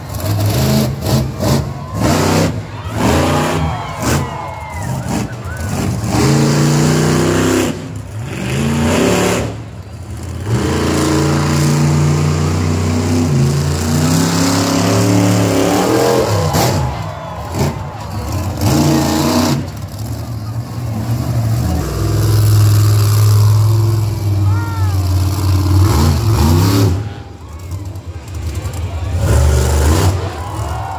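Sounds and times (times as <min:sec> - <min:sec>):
small truck engines revving: 0:00.0 - 0:30.9.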